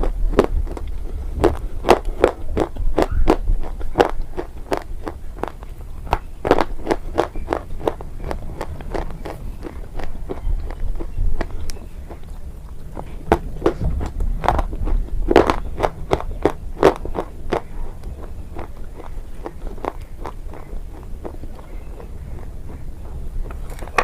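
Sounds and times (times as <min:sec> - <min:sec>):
crunchy biting and chewing: 0:00.0 - 0:24.0.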